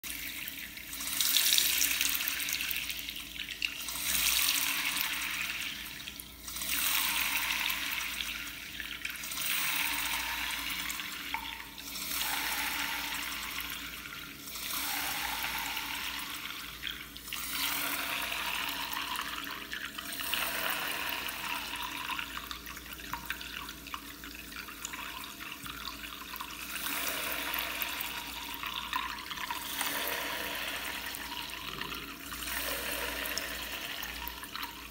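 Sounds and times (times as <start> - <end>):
tap water running into basin: 0.0 - 34.9.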